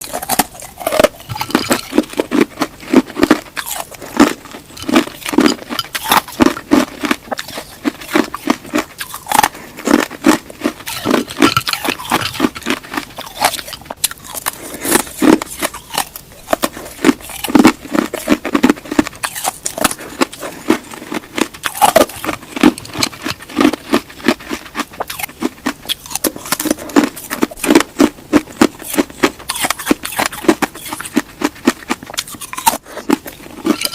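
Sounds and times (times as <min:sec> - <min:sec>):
chewing crunchy food: 0:00.0 - 0:33.9.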